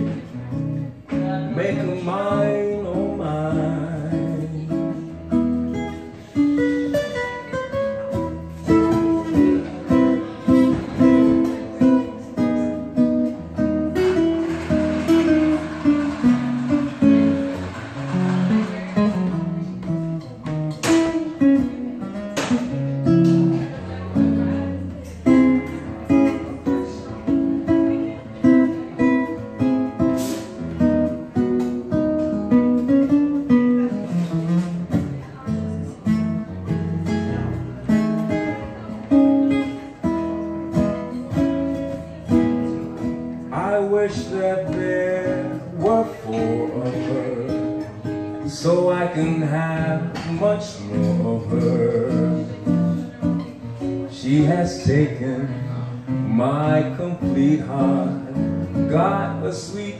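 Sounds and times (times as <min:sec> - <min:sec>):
acoustic guitar swing jazz: 0:00.0 - 0:59.9.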